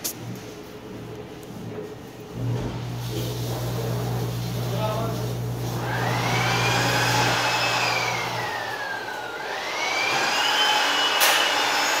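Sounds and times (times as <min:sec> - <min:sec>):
warewasher motor whine: 0:02.2 - 0:12.0.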